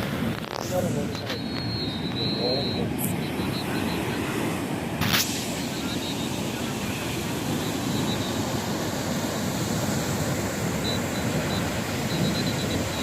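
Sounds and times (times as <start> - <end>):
sea surf washing onto beach: 0.0 - 13.0.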